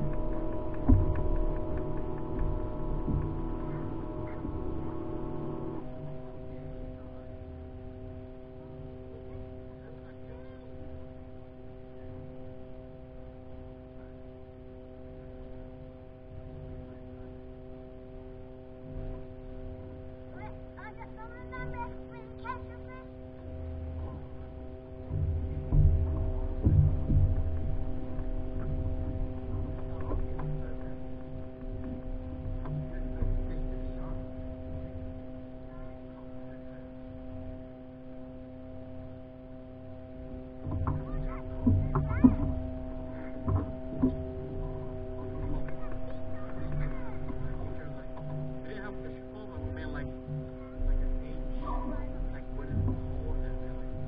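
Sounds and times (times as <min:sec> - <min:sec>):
steady multi-pitch hum: 0:00.0 - 0:54.0
uneven low rumble: 0:00.0 - 0:54.0.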